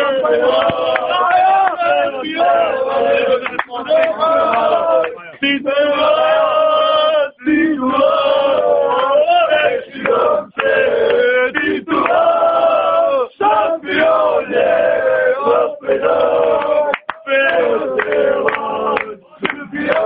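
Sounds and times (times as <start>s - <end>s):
male football fans chanting: 0.0s - 20.0s.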